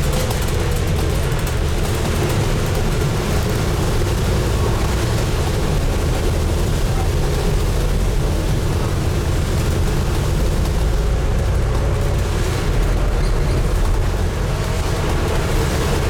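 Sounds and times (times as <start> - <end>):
bus diesel engine rumble: 0.0 - 16.0
road noise: 0.0 - 16.0.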